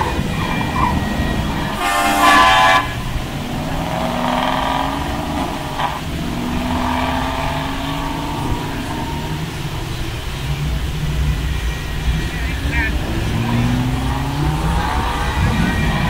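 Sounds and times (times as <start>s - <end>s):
loud horn blast: 0.0s - 10.5s, 11.4s - 16.0s.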